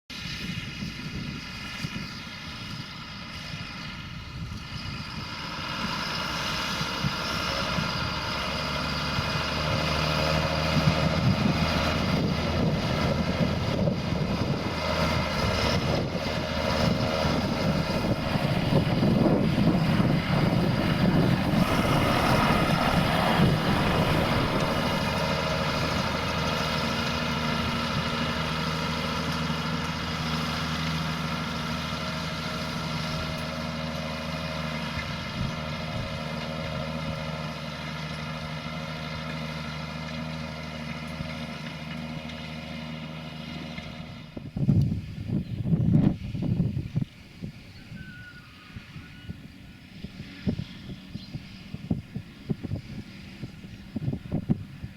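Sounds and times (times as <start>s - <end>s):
tractor diesel engine under load: 0.1s - 54.9s.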